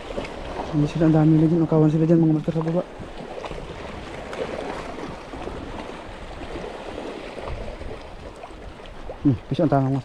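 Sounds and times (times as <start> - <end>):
waves washing over rocks: 0.0 - 10.0.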